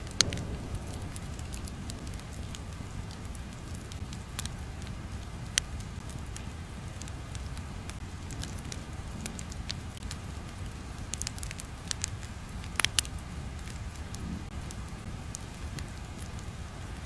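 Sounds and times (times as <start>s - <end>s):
crackles and pops: 0.0s - 17.0s
low rumble: 0.0s - 17.0s.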